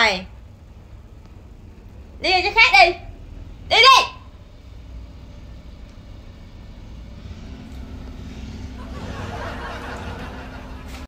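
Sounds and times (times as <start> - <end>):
faint steady hum: 0.0 - 11.0
low steady rumble: 0.0 - 11.0.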